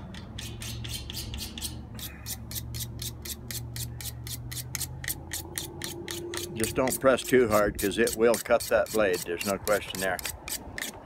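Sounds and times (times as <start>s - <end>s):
knife sharpener scraping blade: 0.0s - 11.0s.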